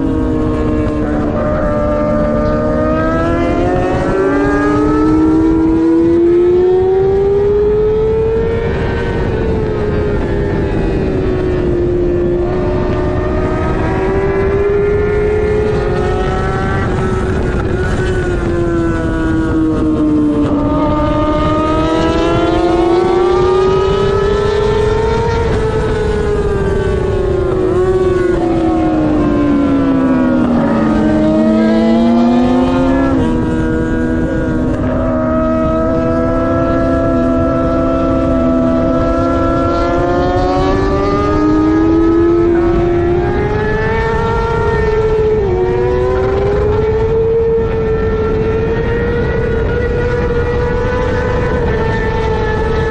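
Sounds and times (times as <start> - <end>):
motorcycle engine revving: 0.0 - 52.9
wind rushing: 0.0 - 52.9.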